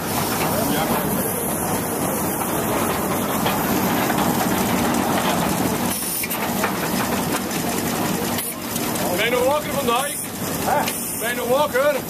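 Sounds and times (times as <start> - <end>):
machinery clattering: 0.0 - 12.0.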